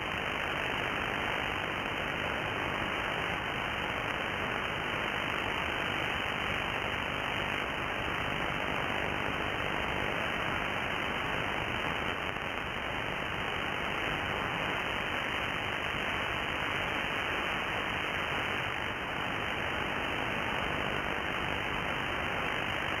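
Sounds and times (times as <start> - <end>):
radio receiver static hiss: 0.0 - 23.0.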